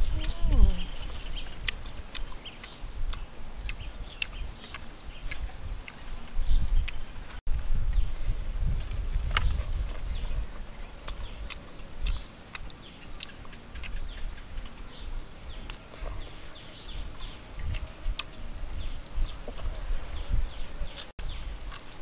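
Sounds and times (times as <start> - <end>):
birds chirping: 0.0 - 21.8
crunchy chewing: 0.9 - 7.1, 8.7 - 22.0.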